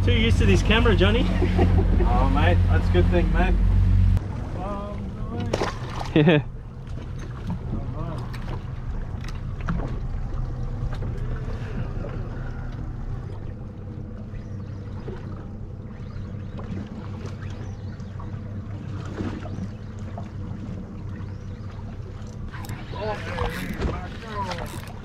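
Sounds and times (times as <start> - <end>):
boat engine idling: 0.0 - 25.0.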